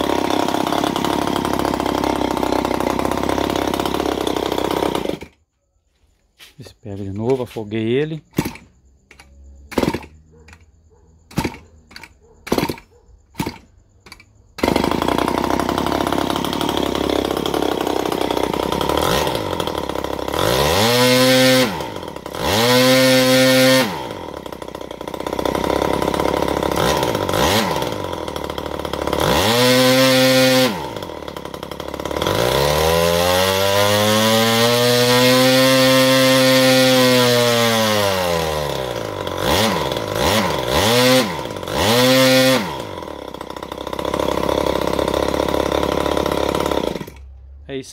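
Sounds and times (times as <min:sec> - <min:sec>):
small two-stroke engine revving: 0:00.0 - 0:05.4, 0:07.9 - 0:10.7, 0:11.3 - 0:47.6.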